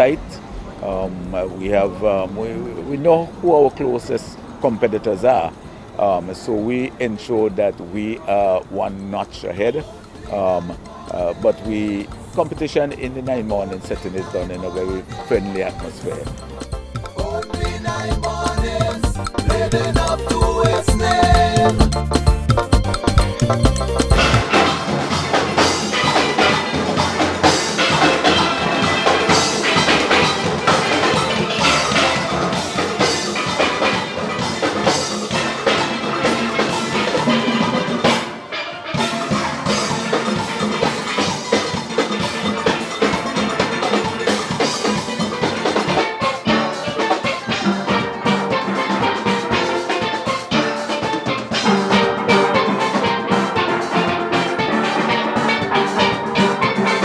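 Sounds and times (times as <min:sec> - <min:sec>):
steelpan music: 0:00.0 - 0:57.0
drum beat: 0:08.8 - 0:57.0.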